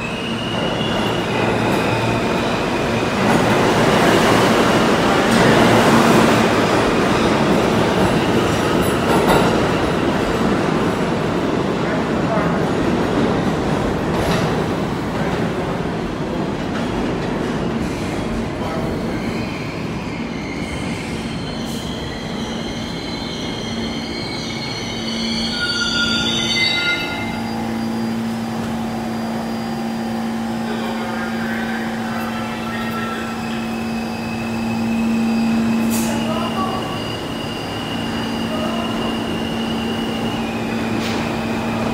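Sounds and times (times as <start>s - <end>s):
subway train hum: 0.0s - 41.9s
subway train wheels squealing: 0.0s - 41.9s.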